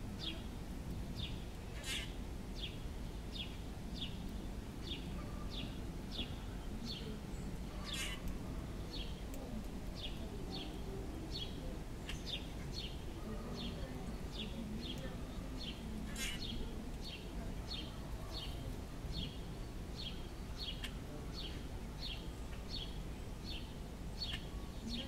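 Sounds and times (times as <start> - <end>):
noisy rustle: 0.0 - 25.0
songbird chirping: 0.0 - 25.0.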